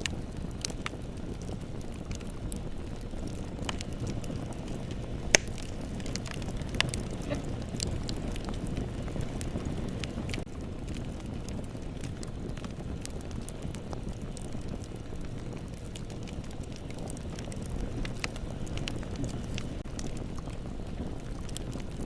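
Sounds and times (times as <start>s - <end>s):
burning wood crackling and popping: 0.0s - 22.0s
low rush of flames: 0.0s - 22.0s.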